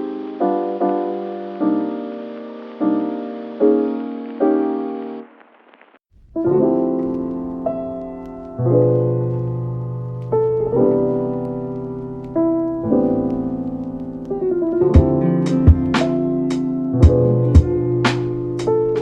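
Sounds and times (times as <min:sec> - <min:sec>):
soft piano chords: 0:00.0 - 0:05.3, 0:06.2 - 0:19.0.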